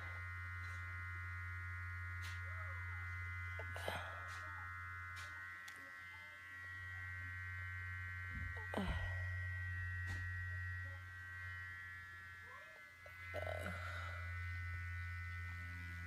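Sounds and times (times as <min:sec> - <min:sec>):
massager motor buzzing: 0:00.0 - 0:16.0.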